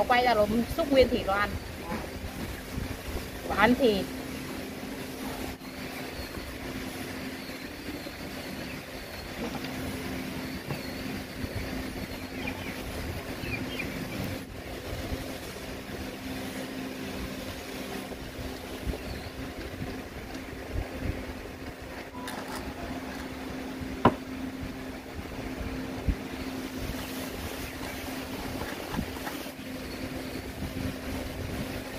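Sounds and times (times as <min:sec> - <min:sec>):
mechanical hum and rumble: 0:00.0 - 0:31.9.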